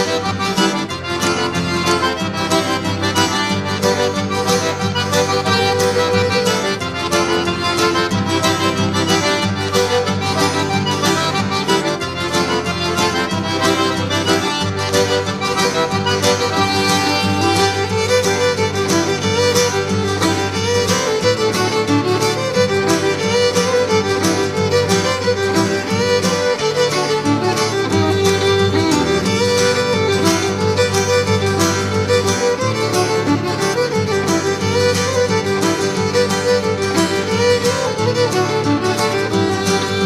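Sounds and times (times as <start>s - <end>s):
fiddle and accordion tune: 0.0s - 40.0s.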